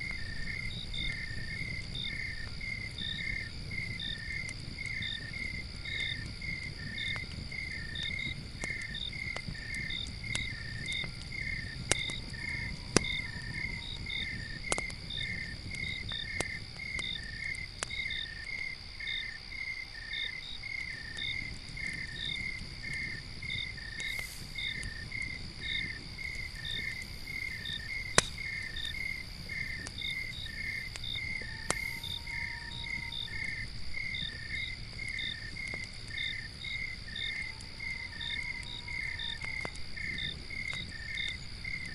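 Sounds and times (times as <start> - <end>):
campfire crackling and popping: 0.0 - 41.9
crickets chirping: 0.0 - 41.9
high insect drone: 0.0 - 41.9.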